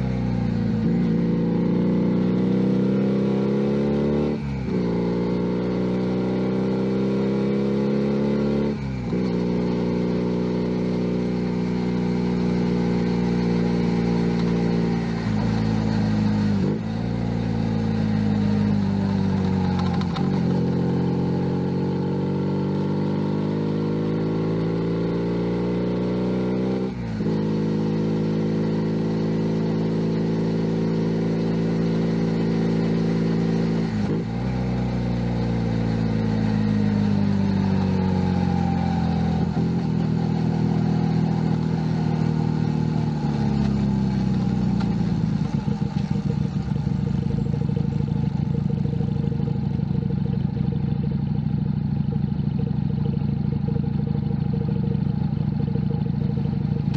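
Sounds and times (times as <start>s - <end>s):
motorcycle engine shifting gears: 0.0s - 56.9s.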